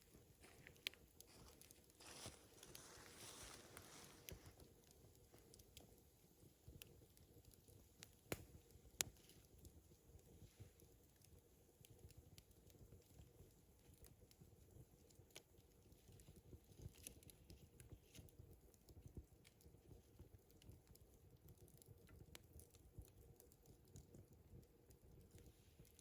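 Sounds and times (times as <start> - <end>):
small clicks and crackles: 0.0 - 26.0.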